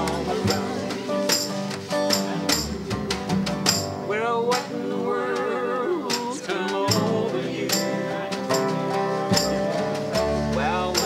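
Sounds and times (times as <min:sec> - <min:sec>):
dobro: 0:00.0 - 0:11.0
drum struck with stick: 0:00.0 - 0:11.0
strummed acoustic guitars: 0:00.0 - 0:11.0
upright bass: 0:00.0 - 0:11.0.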